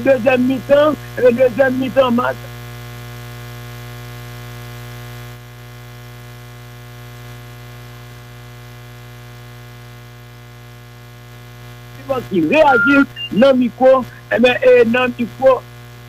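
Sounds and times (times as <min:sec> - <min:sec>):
electrical mains hum: 0:00.0 - 0:05.4, 0:06.6 - 0:16.0.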